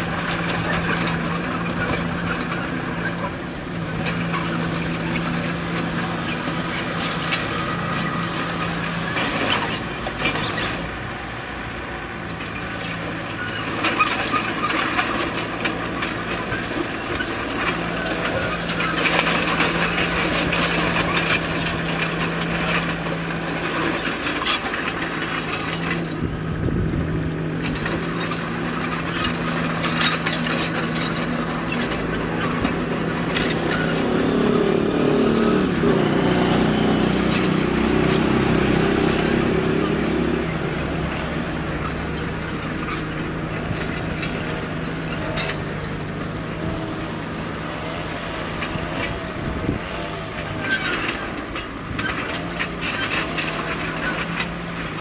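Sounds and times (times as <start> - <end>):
rock clanking and scraping: 0.0 - 11.2, 12.2 - 55.0
bulldozer diesel engine: 0.0 - 55.0.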